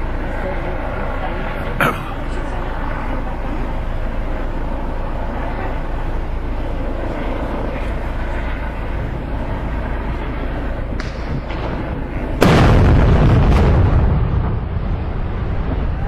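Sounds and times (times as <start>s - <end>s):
low rumble with hiss: 0.0s - 16.0s.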